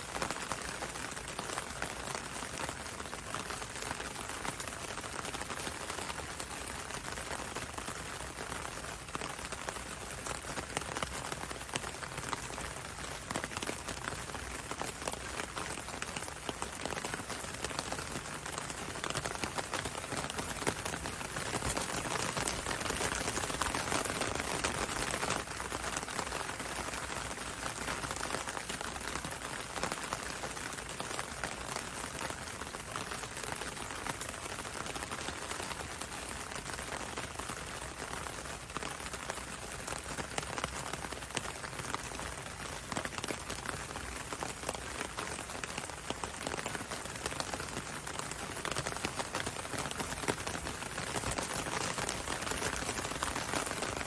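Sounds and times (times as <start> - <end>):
rain on window and road: 0.0 - 54.0.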